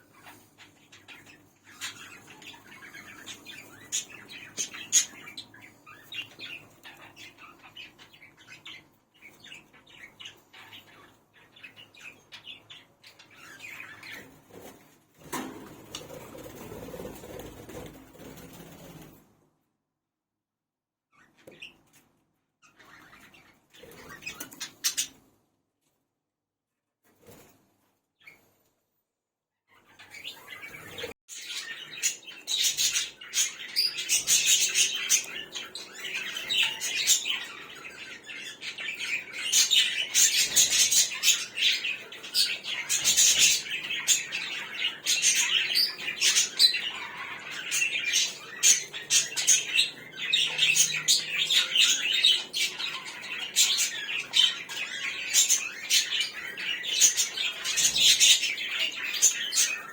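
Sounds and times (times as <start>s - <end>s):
cage birds chirping and chattering: 0.0s - 19.5s, 21.1s - 26.0s, 27.0s - 28.8s, 29.7s - 59.9s.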